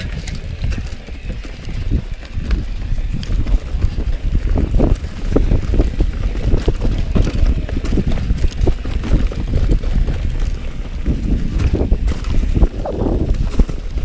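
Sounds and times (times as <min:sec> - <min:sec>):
bike rattling and knocking: 0:00.0 - 0:14.0
wind buffeting microphone: 0:00.0 - 0:14.0.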